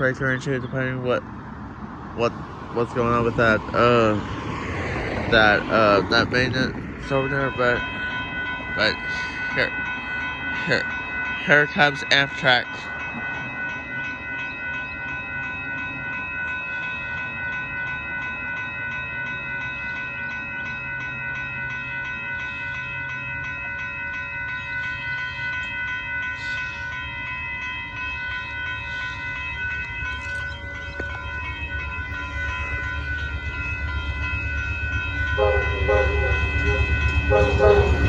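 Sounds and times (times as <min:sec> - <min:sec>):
high warning tones: 0:00.0 - 0:38.0
train low rumble: 0:00.0 - 0:38.0.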